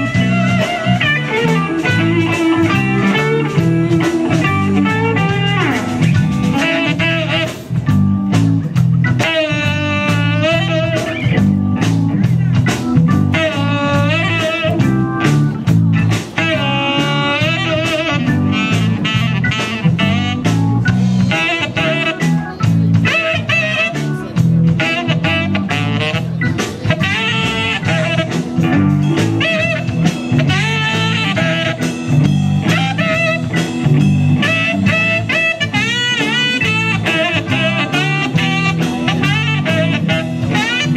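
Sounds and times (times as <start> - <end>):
blues band instrumental: 0.0 - 40.9.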